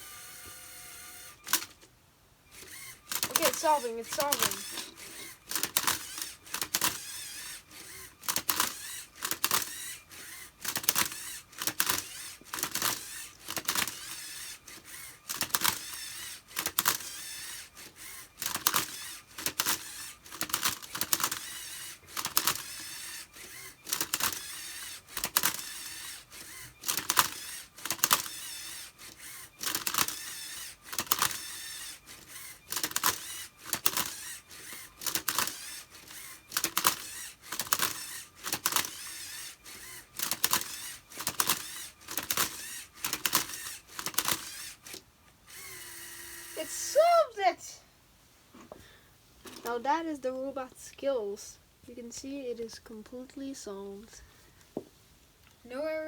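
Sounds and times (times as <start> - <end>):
robot motors whirring: 0.0 - 1.7, 2.5 - 47.1.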